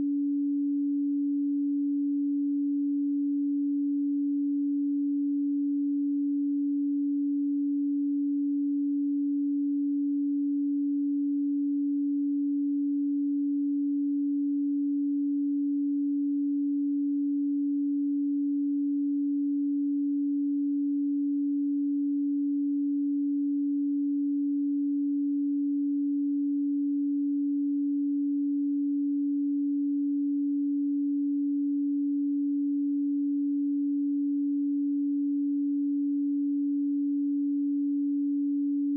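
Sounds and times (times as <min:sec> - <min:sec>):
pure sine tone: 0:00.0 - 0:38.9.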